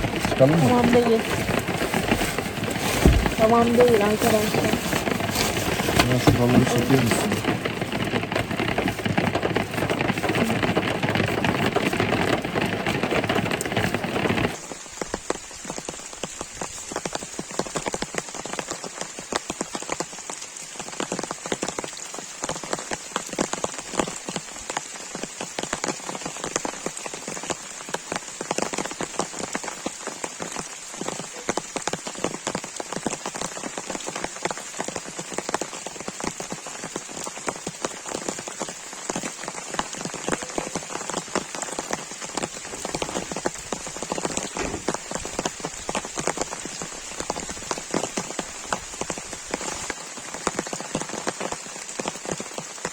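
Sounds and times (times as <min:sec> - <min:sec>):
heavy rain patter: 0:00.0 - 0:52.9.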